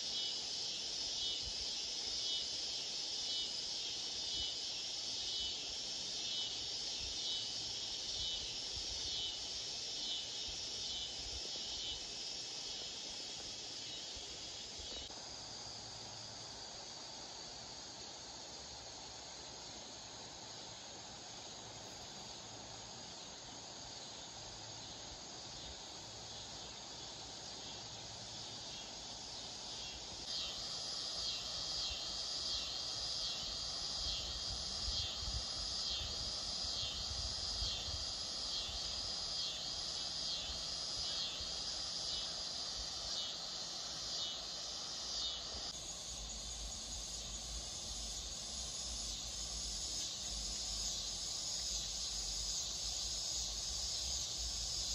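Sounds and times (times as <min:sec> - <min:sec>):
insects chirping: 0:00.0 - 0:54.9
outdoor hiss: 0:00.0 - 0:54.9.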